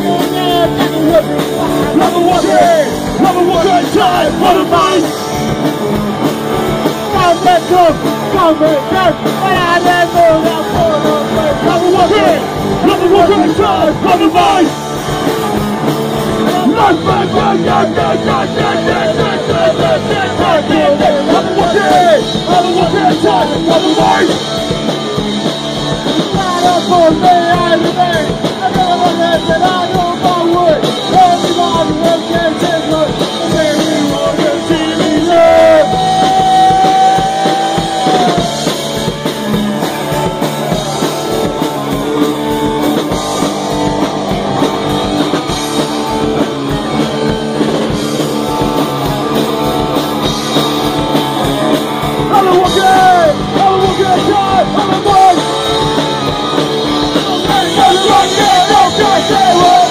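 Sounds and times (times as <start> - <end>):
shouted lead vocal: 0.0 - 5.4, 6.9 - 25.2, 25.9 - 59.9
punk rock band playing: 0.0 - 59.9.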